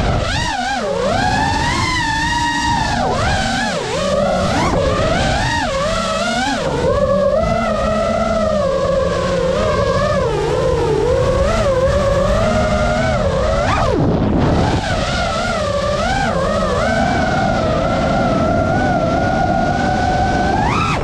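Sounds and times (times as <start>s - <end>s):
drone motors whining: 0.0s - 21.0s
wind rumble on microphone: 0.0s - 21.0s.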